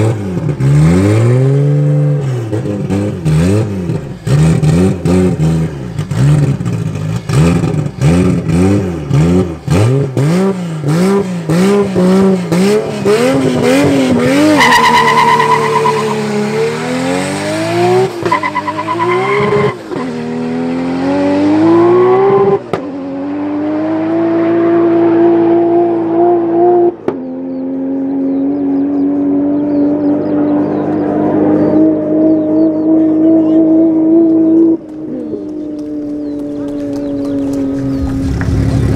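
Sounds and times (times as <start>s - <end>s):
car accelerating through gears: 0.0s - 38.9s
car engine revving: 0.0s - 38.9s.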